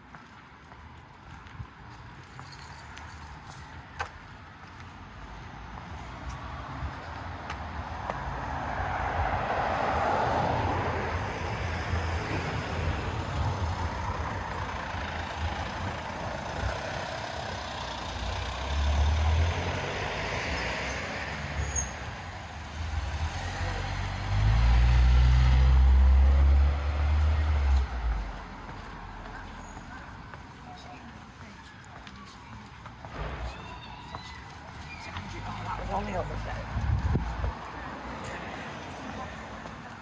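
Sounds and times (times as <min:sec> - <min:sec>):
vehicles passing: 0:00.0 - 0:40.0
heavy vehicle rumble: 0:04.9 - 0:30.0, 0:33.0 - 0:40.0.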